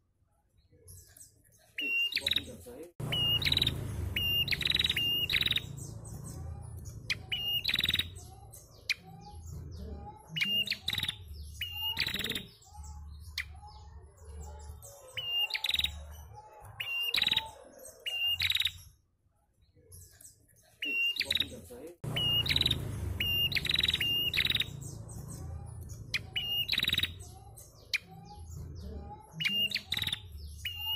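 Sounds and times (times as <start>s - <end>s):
bird chirping: 0.6s - 19.0s, 19.8s - 30.9s.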